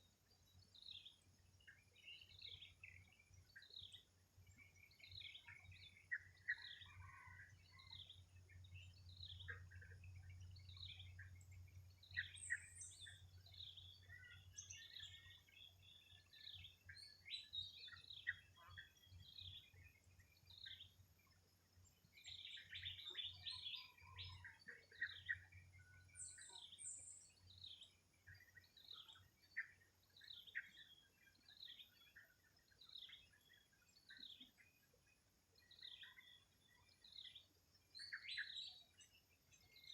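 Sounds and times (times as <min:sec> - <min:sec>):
faint small birds chirping: 0:00.0 - 0:39.9.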